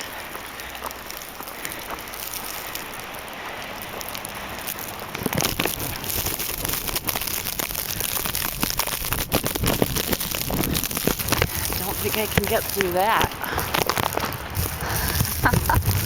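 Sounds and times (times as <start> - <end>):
snow crackling on plastic bag: 0.0 - 16.0.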